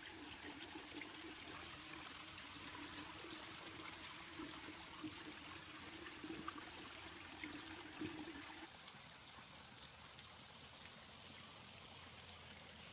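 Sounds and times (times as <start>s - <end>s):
trickle of running water: 0.0s - 12.9s.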